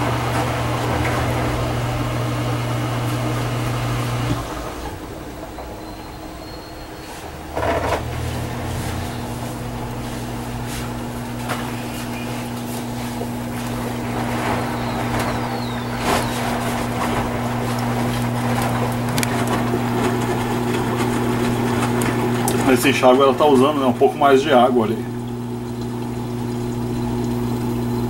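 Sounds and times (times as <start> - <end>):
laundry sloshing in drum: 0.0 - 28.0
washing machine motor hum: 0.0 - 28.0.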